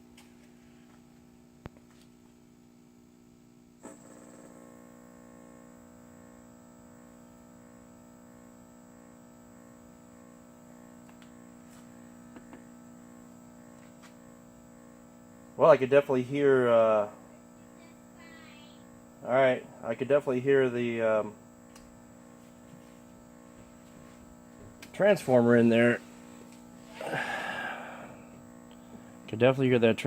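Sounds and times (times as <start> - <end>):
electrical hum with high whine: 0.0 - 30.0.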